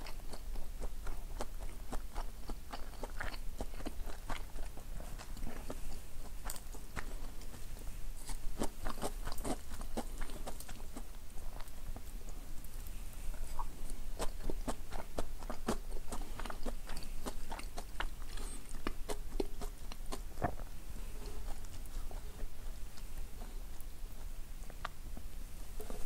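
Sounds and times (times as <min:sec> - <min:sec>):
close chewing mouth clicks: 0:00.0 - 0:25.9.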